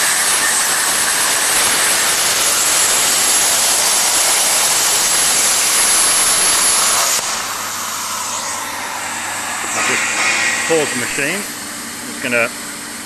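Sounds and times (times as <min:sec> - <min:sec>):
plasma torch hissing: 0:00.0 - 0:11.6.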